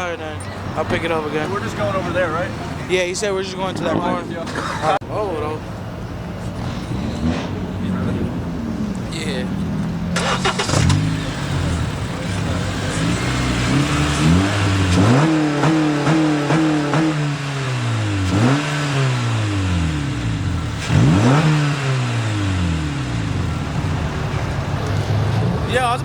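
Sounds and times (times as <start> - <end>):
car engine revving: 0.0 - 5.0, 5.8 - 26.0.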